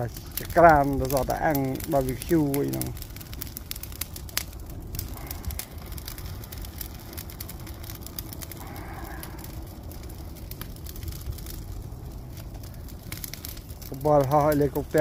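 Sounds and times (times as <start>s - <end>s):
fire crackling and popping: 0.0s - 15.0s
low fire rumble: 0.0s - 15.0s.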